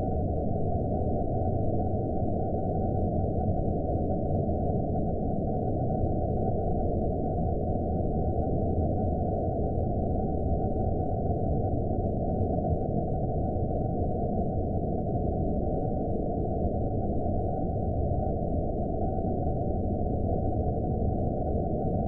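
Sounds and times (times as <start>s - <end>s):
muffled low rumble drone: 0.0s - 22.0s.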